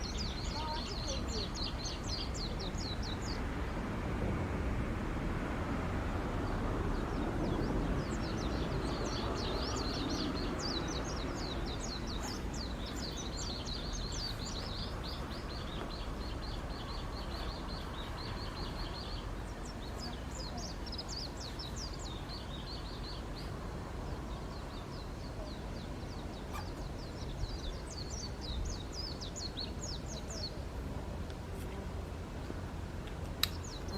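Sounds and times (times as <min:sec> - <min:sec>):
small birds chirping: 0:00.0 - 0:03.8, 0:06.2 - 0:32.1, 0:33.4 - 0:33.9.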